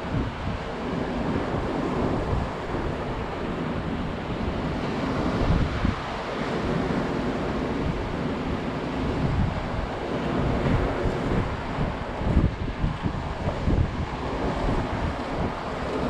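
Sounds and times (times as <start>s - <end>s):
surf breaking on beach: 0.0s - 16.0s
wind gusting on microphone: 0.0s - 16.0s.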